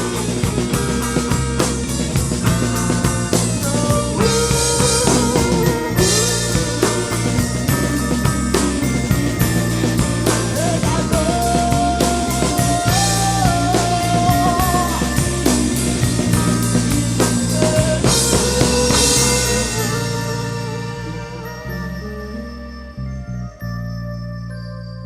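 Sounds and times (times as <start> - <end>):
psychedelic rock band playing: 0.0 - 23.8.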